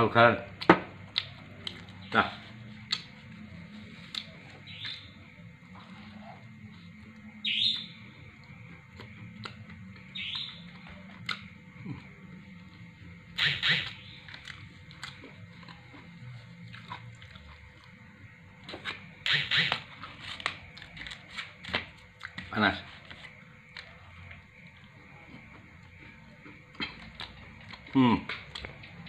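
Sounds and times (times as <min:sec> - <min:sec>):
crunching pizza crust: 0:01.0 - 0:13.2, 0:14.0 - 0:29.0.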